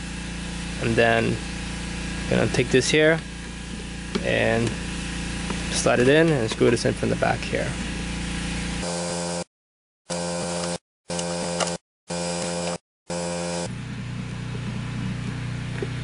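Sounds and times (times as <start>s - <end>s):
machine hum with pitched drone: 0.0s - 9.5s, 10.1s - 16.0s.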